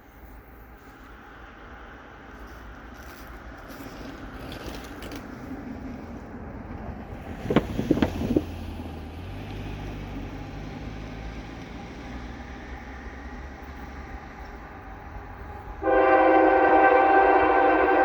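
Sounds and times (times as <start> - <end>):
freight train passing: 0.0 - 18.0
low engine hum: 0.1 - 18.0.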